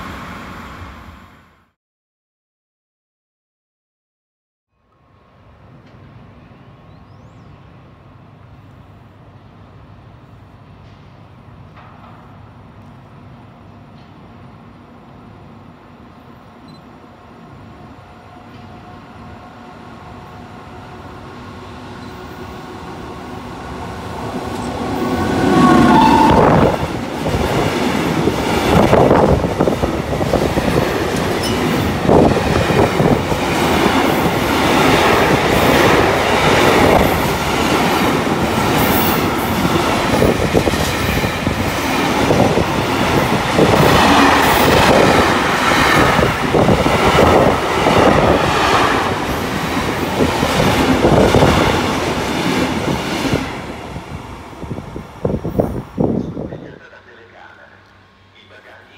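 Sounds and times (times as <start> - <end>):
electric locomotive humming: 4.9 - 58.9.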